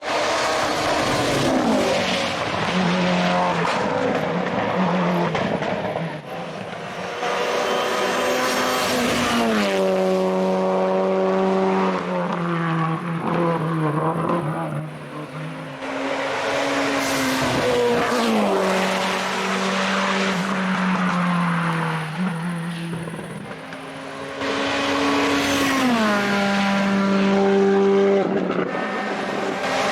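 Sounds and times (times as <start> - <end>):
race car engine at high revs: 0.0 - 29.9.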